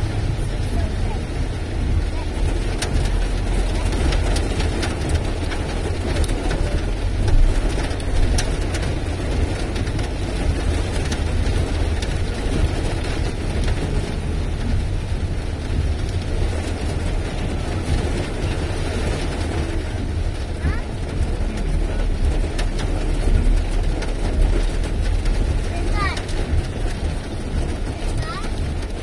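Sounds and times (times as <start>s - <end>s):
heavy rain on car roof: 0.0s - 29.0s
sharp ticks of raindrops: 0.0s - 29.0s
tyre and engine rumble: 0.0s - 29.0s.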